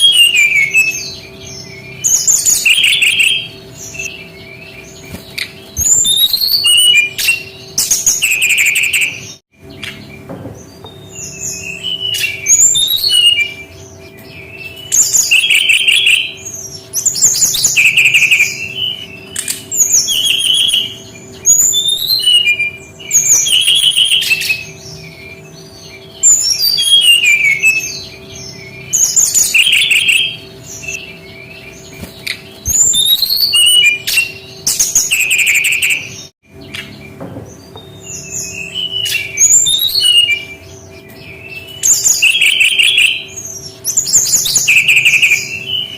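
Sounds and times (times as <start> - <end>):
bird singing whistles and trills: 0.0 - 45.9.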